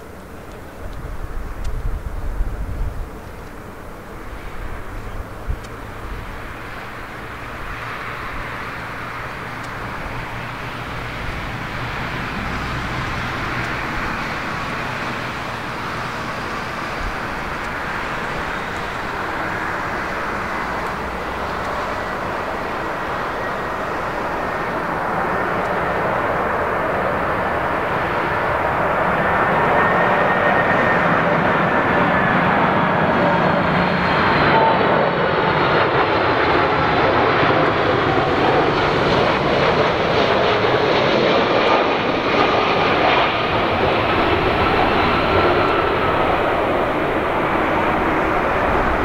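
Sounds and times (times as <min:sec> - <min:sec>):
jet engines roaring: 0:00.0 - 0:49.0.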